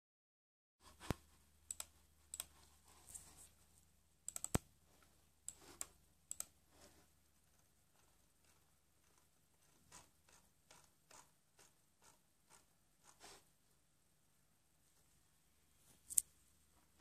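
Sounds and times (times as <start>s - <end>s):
faint low hum: 0.8s - 17.0s.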